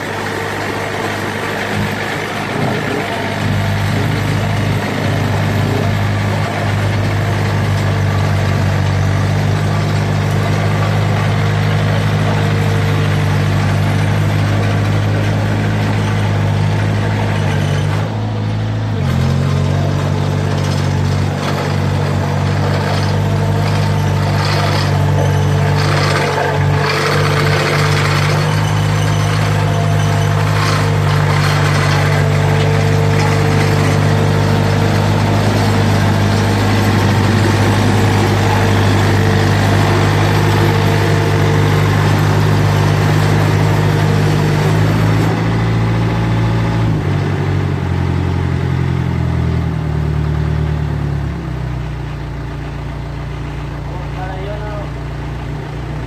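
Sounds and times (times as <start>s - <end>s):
road roller engine running: 0.0s - 56.0s.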